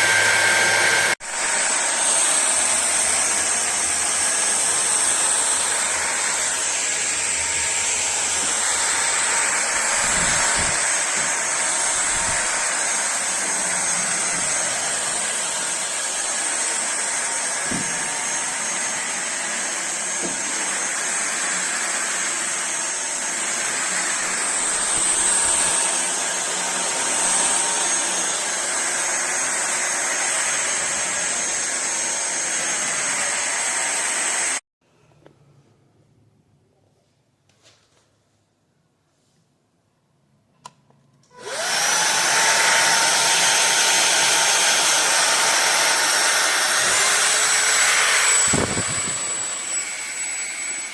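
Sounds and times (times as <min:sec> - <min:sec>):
vacuum cleaner whine: 0:00.0 - 0:34.6, 0:41.3 - 0:50.9.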